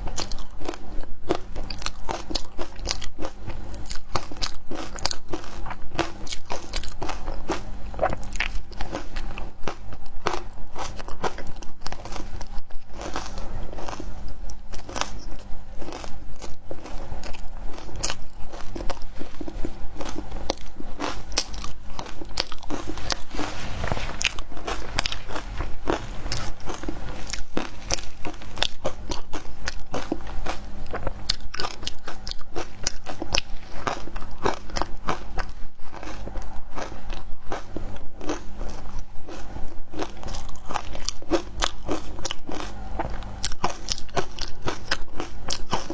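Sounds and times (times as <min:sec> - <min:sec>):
crunchy chewing of ice: 0:00.0 - 0:45.9.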